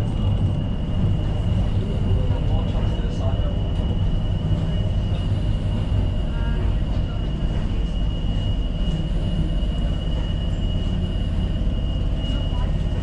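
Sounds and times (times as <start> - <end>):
high-pitched train whine: 0.0 - 13.0
train rumbling on rails: 0.0 - 13.0.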